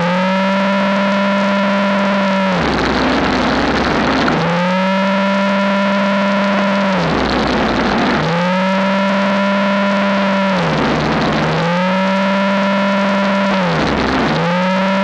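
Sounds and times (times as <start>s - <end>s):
electric snowblower motor whine: 0.0s - 15.0s
rough churning noise: 0.0s - 15.0s.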